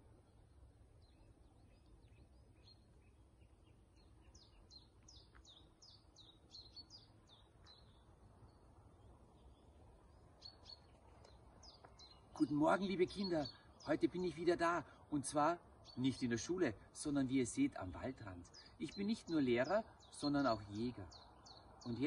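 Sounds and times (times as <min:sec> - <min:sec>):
high falling songbird chirps: 0:00.0 - 0:22.0.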